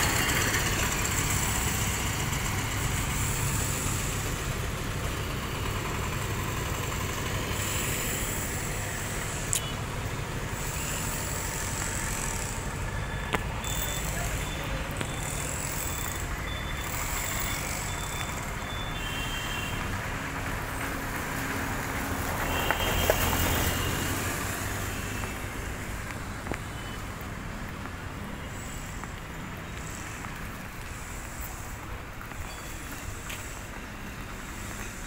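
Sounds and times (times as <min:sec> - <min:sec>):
steady road traffic: 0:00.0 - 0:35.0.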